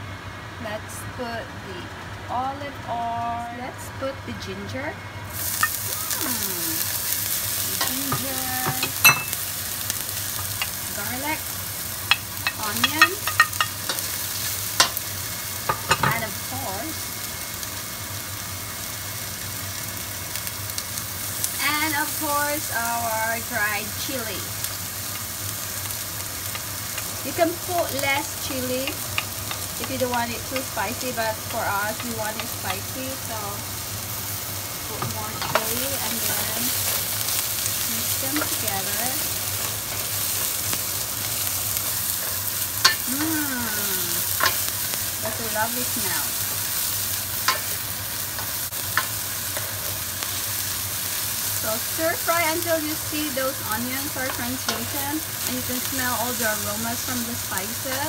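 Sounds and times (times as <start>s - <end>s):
food sizzling in hot oil: 2.0s - 58.0s.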